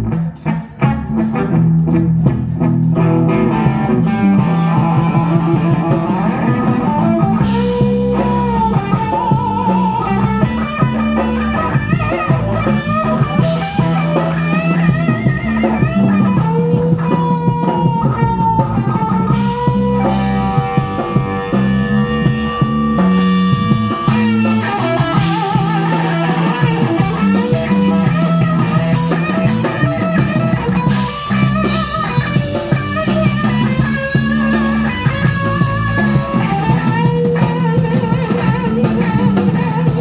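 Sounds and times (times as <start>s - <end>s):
bass line: 0.0s - 40.0s
drum kit: 0.0s - 40.0s
lead guitar with bending notes: 0.0s - 40.0s.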